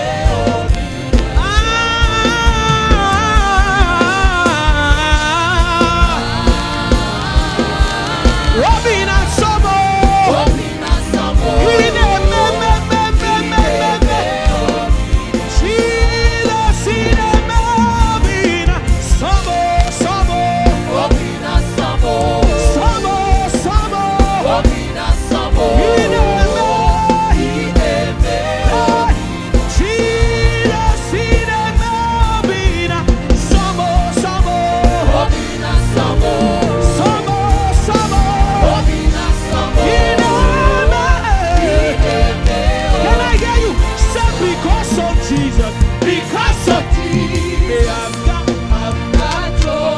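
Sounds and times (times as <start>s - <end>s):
gospel band playing: 0.0s - 49.9s
singing: 0.0s - 49.9s
steady drum beat: 0.0s - 49.9s.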